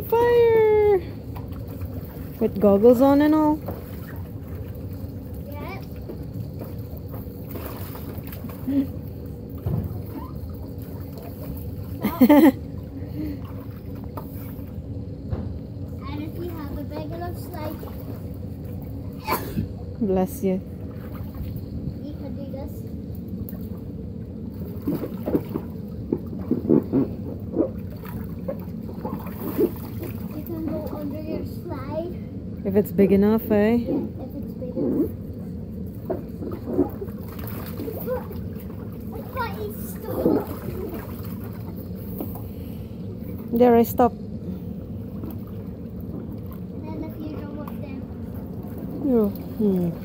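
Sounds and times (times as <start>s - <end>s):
water sloshing and splashing: 0.0s - 50.0s.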